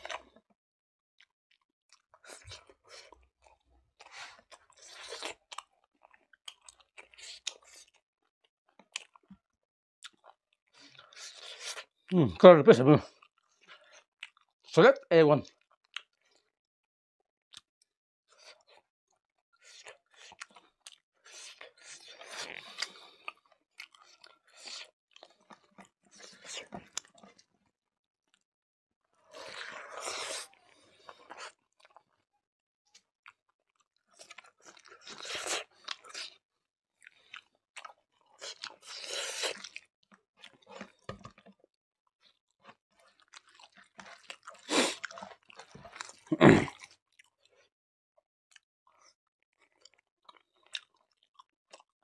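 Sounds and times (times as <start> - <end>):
person chewing food: 0.0 - 0.5, 1.2 - 8.0, 8.7 - 12.4, 13.0 - 14.7, 15.5 - 16.5, 17.5 - 28.4, 29.1 - 32.2, 32.9 - 36.4, 37.0 - 47.7, 48.5 - 52.0.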